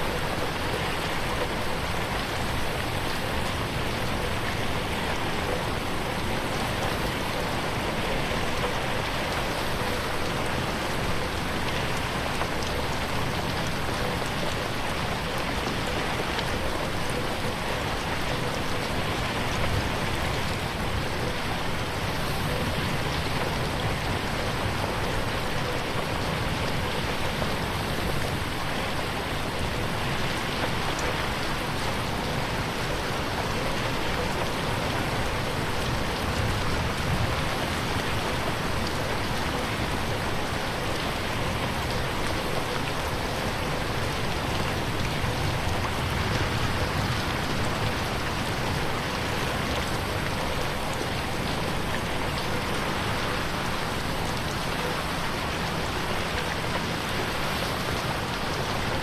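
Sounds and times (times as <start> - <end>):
rain falling on a window: 0.0 - 59.0.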